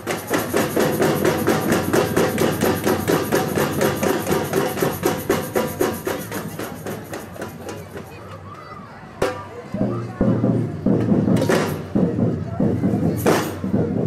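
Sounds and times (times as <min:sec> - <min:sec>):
samba percussion drumming: 0:00.0 - 0:08.3, 0:09.2 - 0:14.0.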